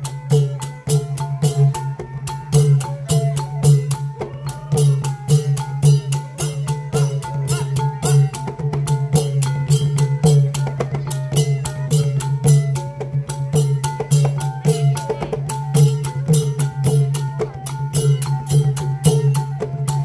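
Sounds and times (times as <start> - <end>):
long drums beating: 0.0 - 20.0
small hand cymbals: 0.0 - 20.0.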